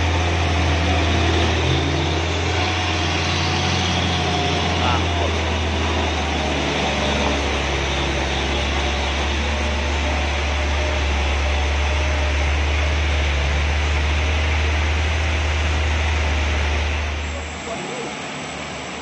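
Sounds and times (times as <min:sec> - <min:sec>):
truck diesel engine pulling hard: 0:00.0 - 0:19.0.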